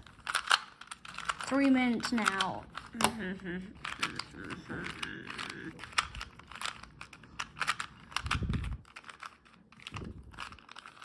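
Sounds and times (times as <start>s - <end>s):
plastic puzzle cube clicking: 0.0s - 11.0s.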